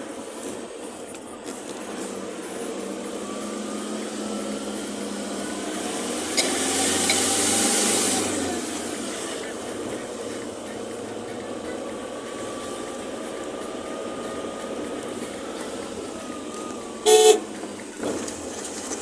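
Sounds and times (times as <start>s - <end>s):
vehicle running noise: 0.0s - 19.0s.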